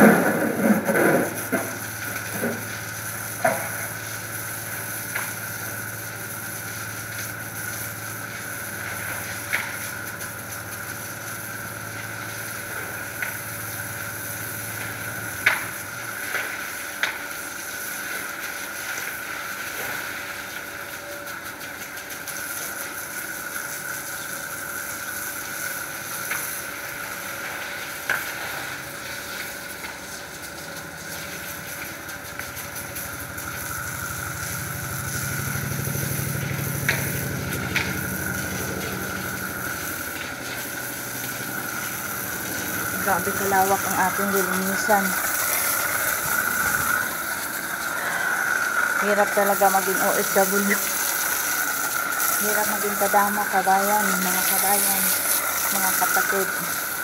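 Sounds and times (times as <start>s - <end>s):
water spraying from a hose: 0.0s - 57.0s.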